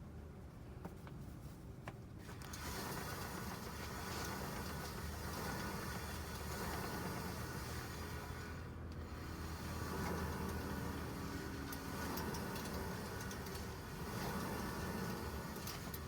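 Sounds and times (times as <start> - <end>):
rushing noise with faint whine: 0.0 - 16.0.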